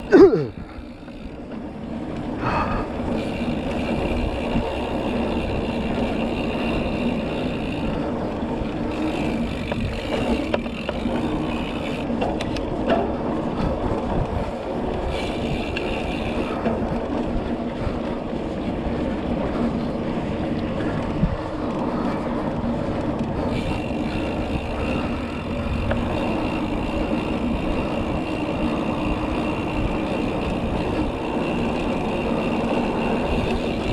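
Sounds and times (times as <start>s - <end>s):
bike tyre noise on trail: 0.0s - 33.9s
wind rush on microphone: 0.0s - 33.9s.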